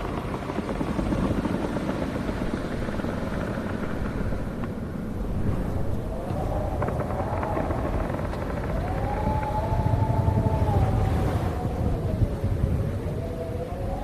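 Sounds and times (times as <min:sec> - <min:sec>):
strong wind rumbling: 0:00.0 - 0:14.0
wind whistling howl: 0:00.0 - 0:14.0.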